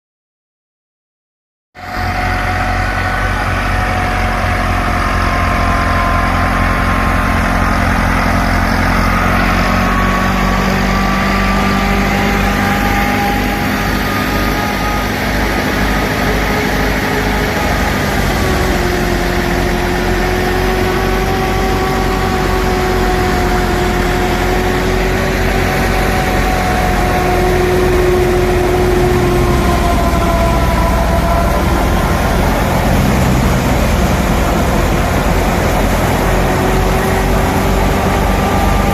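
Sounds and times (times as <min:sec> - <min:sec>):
high tones drifting in pitch: 0:01.8 - 0:38.9
tractor diesel engine running: 0:01.8 - 0:38.9.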